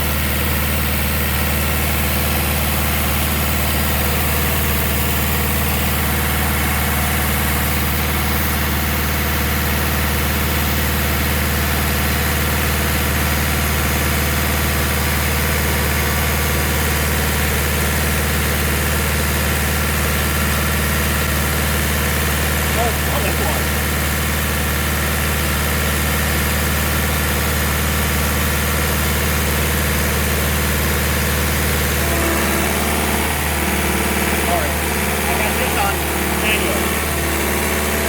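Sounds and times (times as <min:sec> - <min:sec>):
pump engine running: 0:00.0 - 0:38.0.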